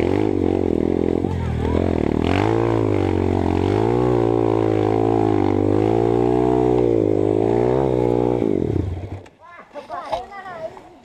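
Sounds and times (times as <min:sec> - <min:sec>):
motorbike engine revving: 0:00.0 - 0:09.3.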